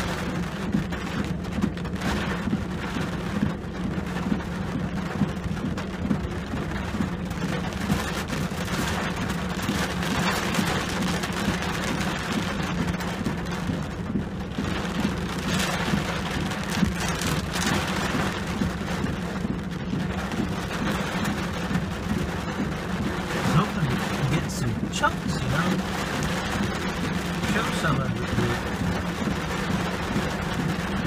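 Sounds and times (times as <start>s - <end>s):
rain on windshield and roof: 0.0s - 31.0s
windshield wipers sweeping: 0.0s - 31.0s.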